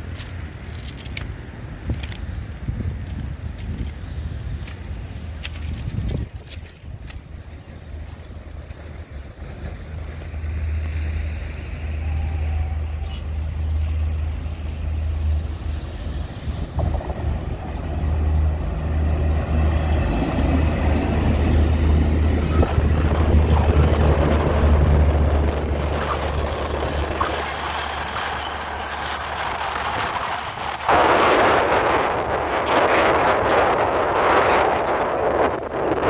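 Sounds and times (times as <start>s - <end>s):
wheels clicking over rail joints: 0.0s - 30.9s
locomotive engine drone: 0.0s - 36.0s
train wheel rumble: 0.0s - 36.0s
rushing noise of passing coaches: 7.1s - 36.0s.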